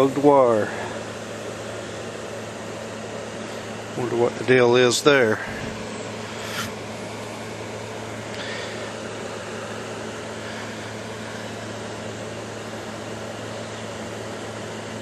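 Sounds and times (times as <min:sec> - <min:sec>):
low machine hum with hiss: 0:00.0 - 0:15.0.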